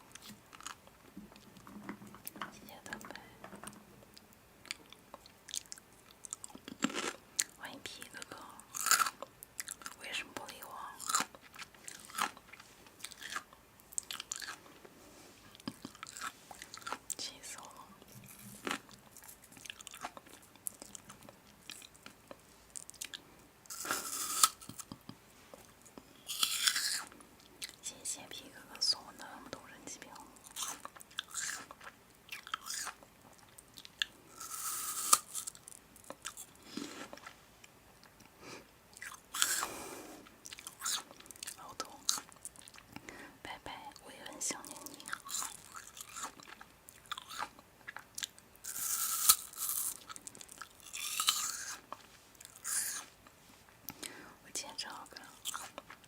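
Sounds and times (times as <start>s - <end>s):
person chewing crunchy food: 0.1s - 1.5s, 4.6s - 7.6s, 8.4s - 10.0s, 10.8s - 14.7s, 15.5s - 27.8s, 30.4s - 38.3s, 38.9s - 43.1s, 44.5s - 54.2s, 54.9s - 56.0s.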